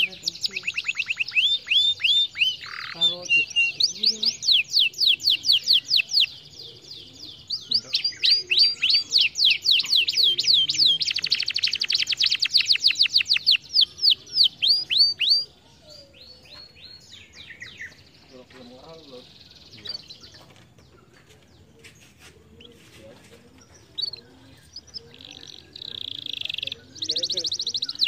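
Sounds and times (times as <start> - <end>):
canary singing: 0.0 - 28.0
faint twittering: 0.0 - 28.0.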